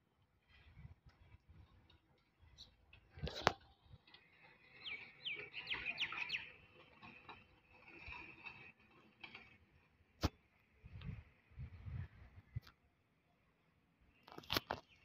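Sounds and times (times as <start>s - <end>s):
faint street background: 0.0s - 15.0s.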